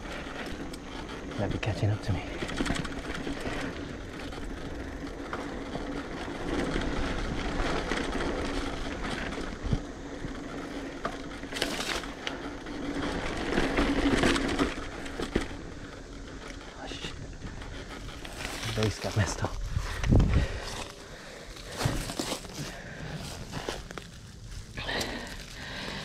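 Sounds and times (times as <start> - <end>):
bike clicks and knocks: 0.0 - 1.3, 2.0 - 16.8, 17.4 - 26.0
bike tyres rolling on dirt: 0.0 - 26.0.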